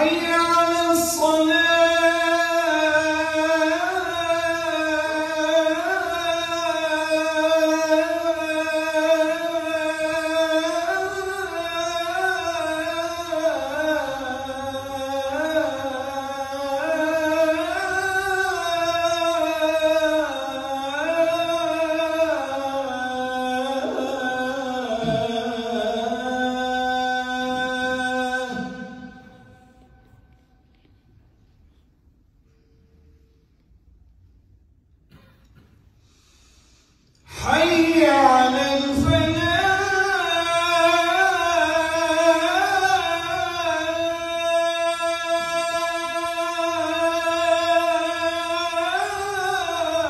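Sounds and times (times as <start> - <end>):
man chanting call to prayer: 0.0 - 30.2, 37.3 - 50.0.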